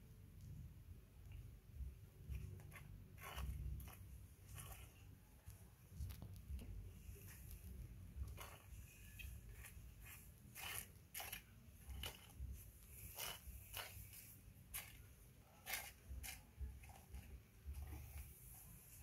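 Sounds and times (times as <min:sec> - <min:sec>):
small clicks and scratches on stone: 0:02.2 - 0:18.4.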